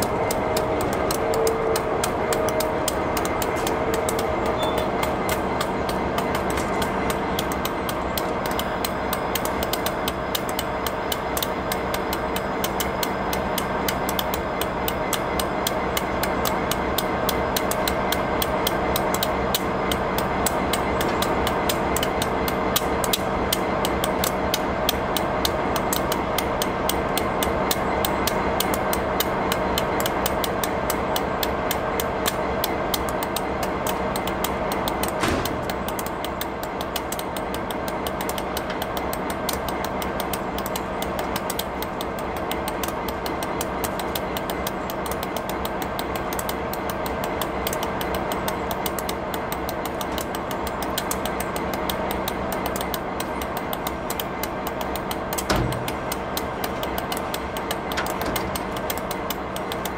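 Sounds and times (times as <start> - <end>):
diesel locomotive engine droning: 0.0 - 59.9
fast even ticking: 0.0 - 59.9.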